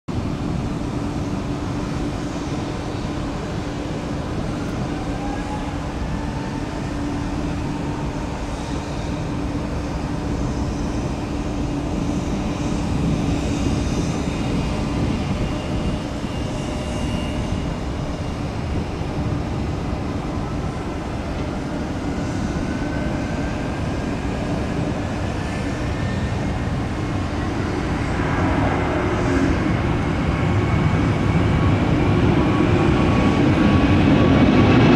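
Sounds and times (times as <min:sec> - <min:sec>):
jet engine roar: 0:00.1 - 0:34.9
jet engine whine rising: 0:00.1 - 0:34.9.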